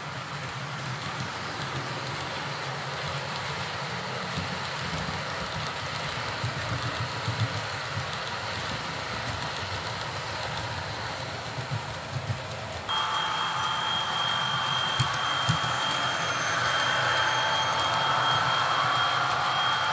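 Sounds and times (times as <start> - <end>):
model train running on rails: 0.0 - 19.9.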